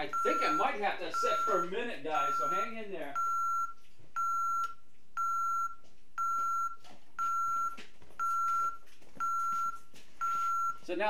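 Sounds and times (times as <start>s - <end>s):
alarm keypad beeping: 0.0s - 10.8s.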